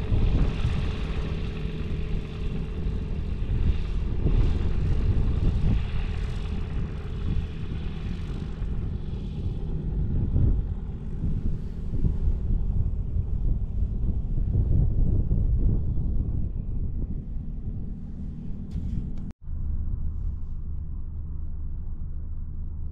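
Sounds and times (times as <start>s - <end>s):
propeller aircraft engine running: 0.0s - 22.9s
wind buffeting microphone: 0.0s - 22.9s.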